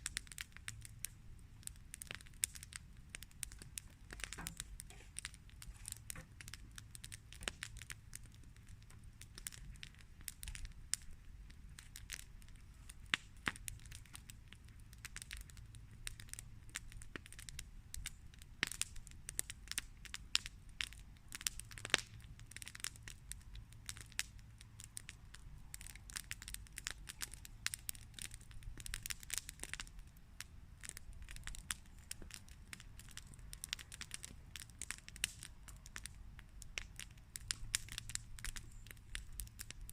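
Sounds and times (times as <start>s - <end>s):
campfire wood crackling and popping: 0.0s - 39.9s
low steady rumble: 0.0s - 39.9s.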